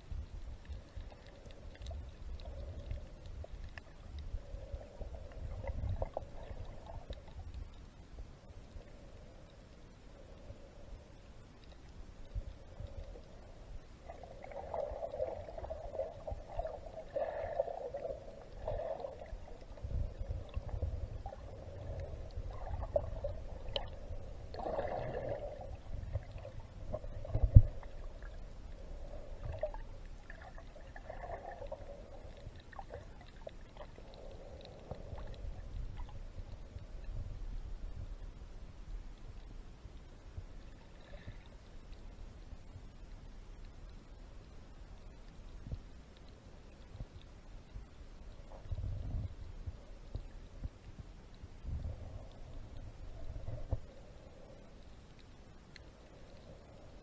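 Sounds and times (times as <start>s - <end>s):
low rumble: 0.0s - 43.5s, 46.9s - 57.0s
muffled water sloshing underwater: 0.0s - 57.0s.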